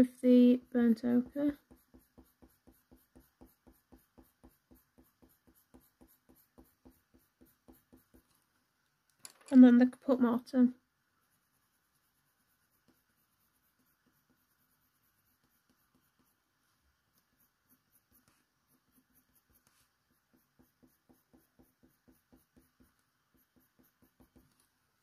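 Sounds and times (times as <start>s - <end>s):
pencil scratching on paper: 0.0s - 8.5s, 11.2s - 25.0s.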